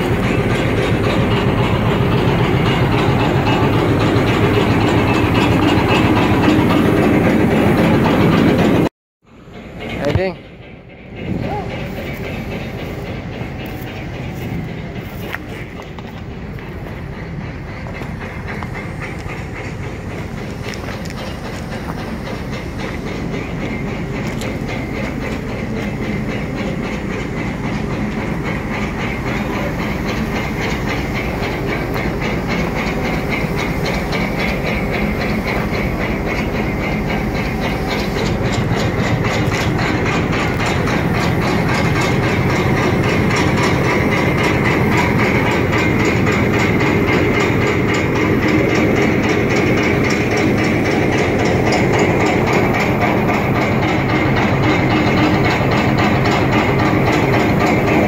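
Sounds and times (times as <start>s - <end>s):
train rumbling with hiss: 0.0s - 58.0s.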